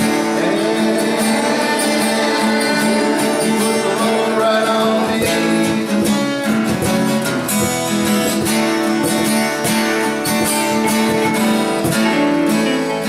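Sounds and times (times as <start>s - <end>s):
live rock band playing: 0.0s - 13.0s
strummed guitar: 0.0s - 13.0s.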